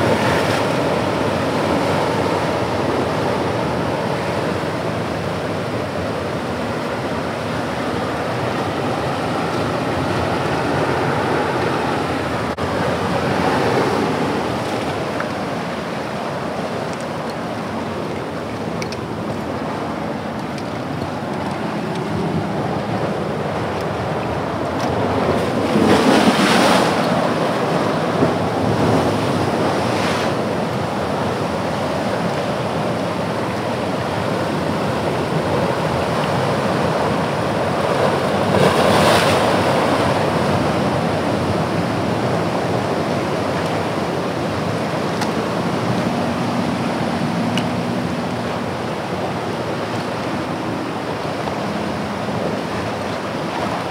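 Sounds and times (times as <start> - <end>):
waves breaking on rocky shore: 0.0 - 53.9.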